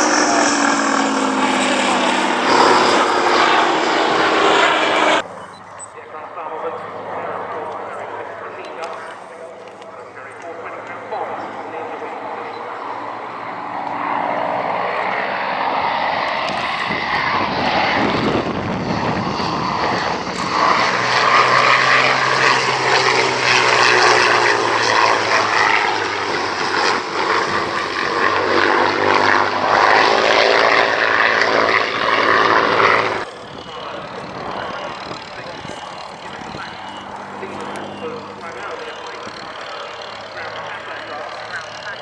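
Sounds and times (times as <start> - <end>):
propeller aircraft engine: 0.0 - 42.0.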